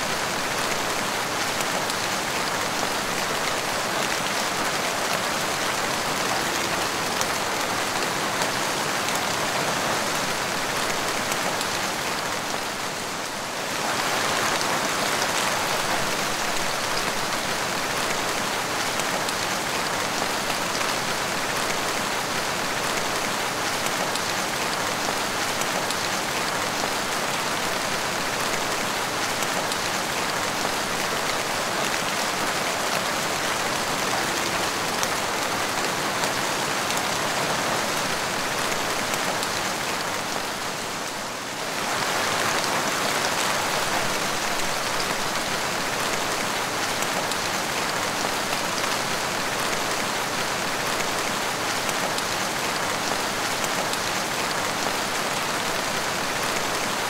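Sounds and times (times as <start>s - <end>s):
rain on tiled floor: 0.0s - 57.0s.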